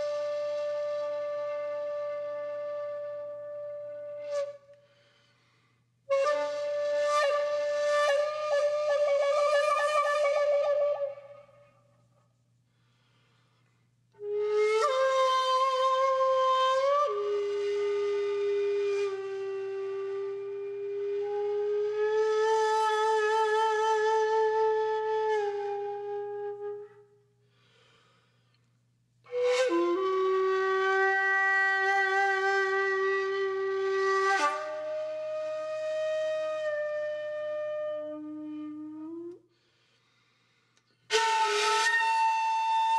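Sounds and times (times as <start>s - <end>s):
solo flute playing: 0.0s - 5.2s, 6.1s - 11.9s, 14.2s - 27.2s, 29.3s - 39.4s, 41.1s - 42.9s.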